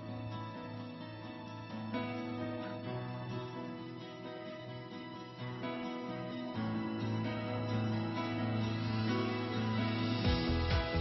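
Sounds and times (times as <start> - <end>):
soft instrumental background music: 0.0 - 11.0.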